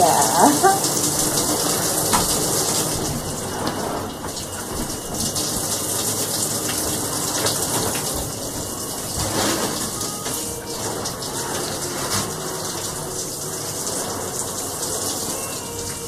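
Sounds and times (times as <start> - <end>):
shower water splashing: 0.0 - 16.0.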